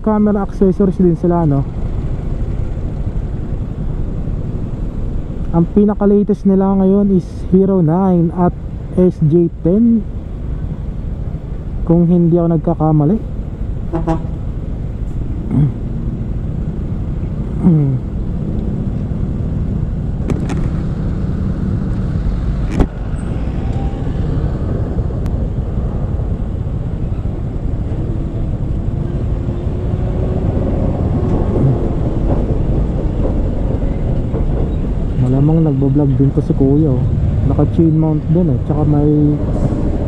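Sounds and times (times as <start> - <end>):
motorcycle engine and road noise: 0.0 - 40.0.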